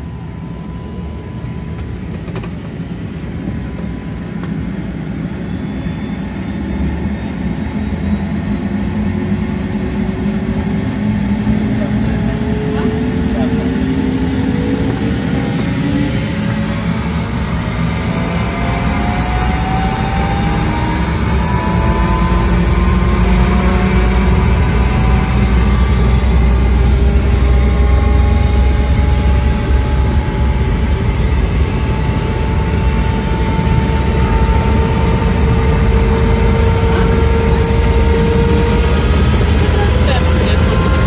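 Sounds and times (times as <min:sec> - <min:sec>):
helicopter turbine and rotor: 0:00.0 - 0:41.0.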